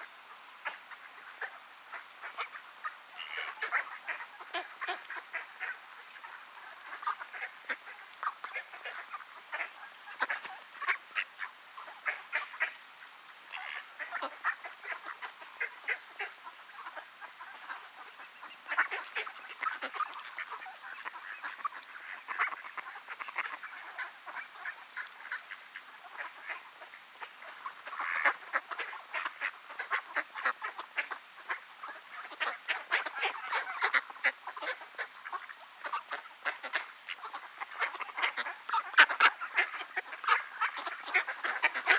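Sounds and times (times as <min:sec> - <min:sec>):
ducks quacking: 0:00.6 - 0:12.8, 0:13.5 - 0:41.9.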